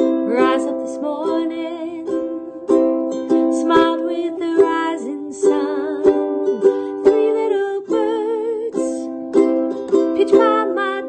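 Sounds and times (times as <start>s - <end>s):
woman singing: 0.0s - 2.6s, 3.3s - 11.0s
strummed stringed instrument: 0.0s - 11.0s.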